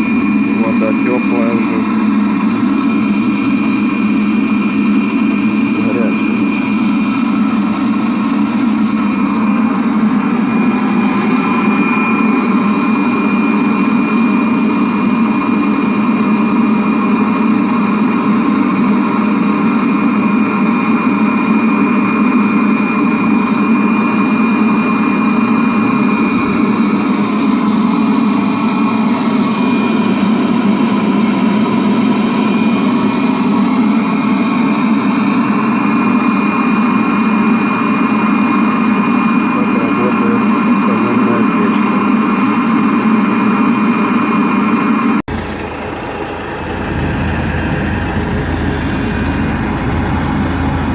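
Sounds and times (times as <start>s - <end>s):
heater burner and blower noise: 0.0s - 50.9s
thin high whine: 0.0s - 50.9s.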